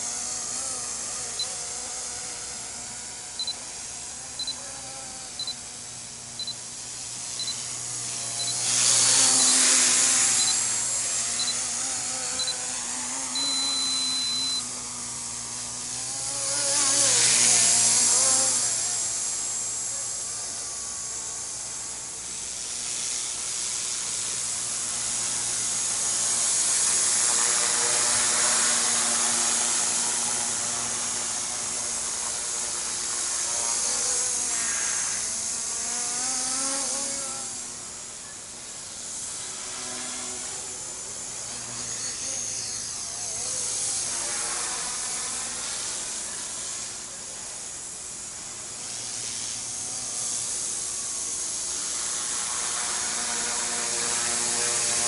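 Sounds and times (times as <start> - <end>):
helicopter motor whine: 0.0 - 55.0
rotor hiss: 0.0 - 55.0.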